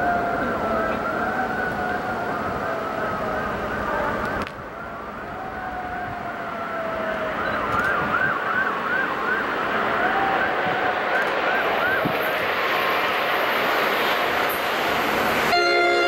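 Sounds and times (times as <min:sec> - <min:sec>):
emergency vehicle siren: 0:00.0 - 0:16.0.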